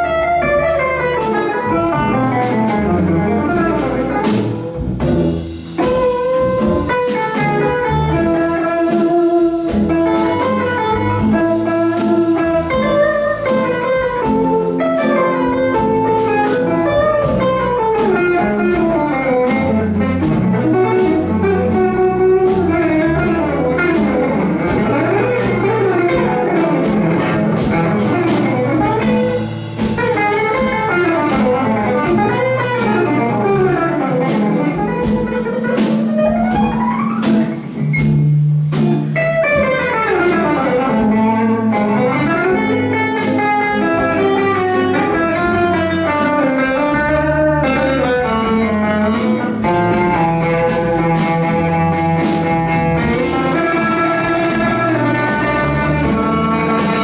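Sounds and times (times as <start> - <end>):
lead guitar fast runs: 0.0 - 38.3, 38.9 - 57.0
accompanying guitar chords: 0.0 - 57.0
bass line: 0.0 - 57.0.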